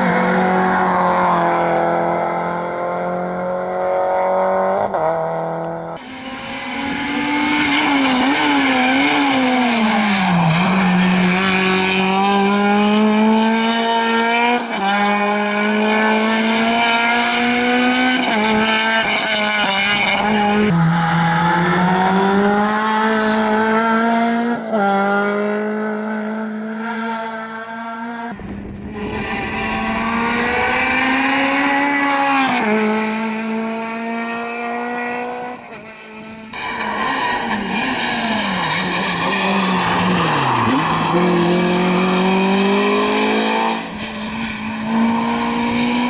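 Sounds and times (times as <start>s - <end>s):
rally car engine at high revs: 0.0s - 46.0s.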